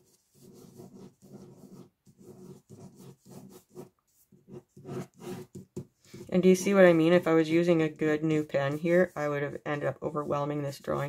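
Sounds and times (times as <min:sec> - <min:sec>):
pen scratching on paper: 0:00.0 - 0:11.0.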